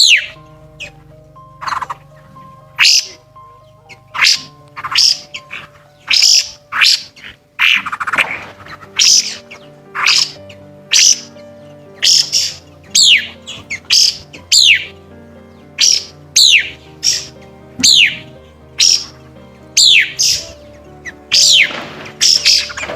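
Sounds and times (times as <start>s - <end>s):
bird calling shrill notes: 0.0s - 22.9s
soft sustained music tones: 0.0s - 22.9s.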